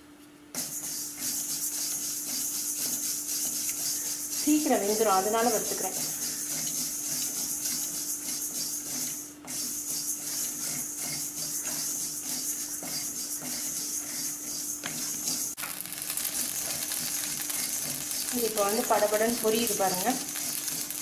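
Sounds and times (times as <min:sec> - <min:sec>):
spatula scraping pearls in a pan: 0:00.6 - 0:21.0.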